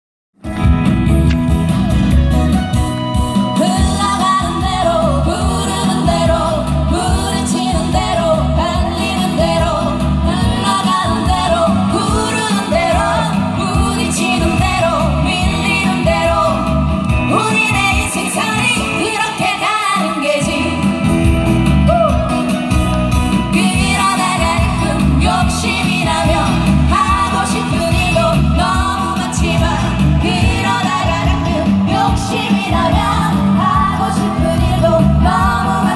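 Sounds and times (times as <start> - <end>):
amplified pop backing music: 0.4 - 35.9
people singing: 3.6 - 35.9.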